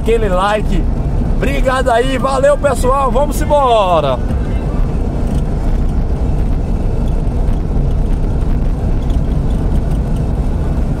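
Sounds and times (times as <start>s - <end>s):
car on wet cobblestones: 0.0s - 11.0s.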